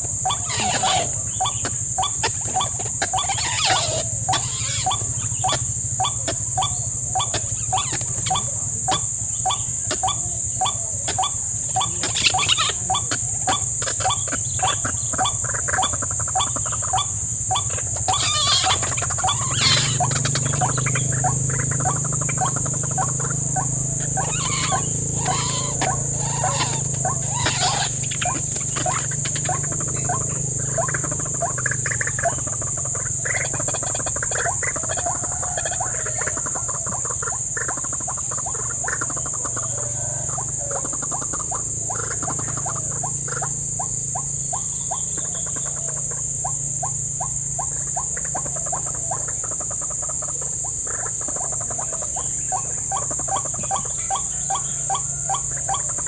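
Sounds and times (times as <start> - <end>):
insects buzzing: 0.0 - 56.0
waterhen croaking calls: 0.0 - 56.0.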